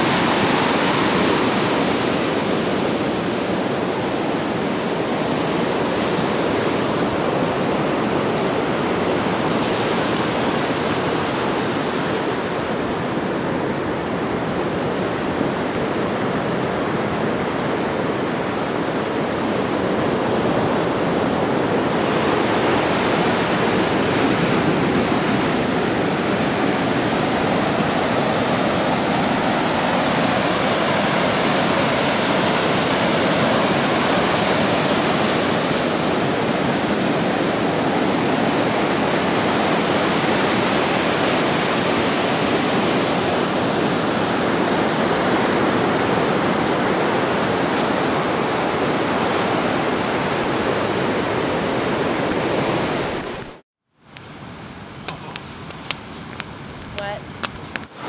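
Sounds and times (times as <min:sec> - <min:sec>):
surf breaking on beach: 0:00.0 - 0:13.3, 0:14.7 - 0:53.6.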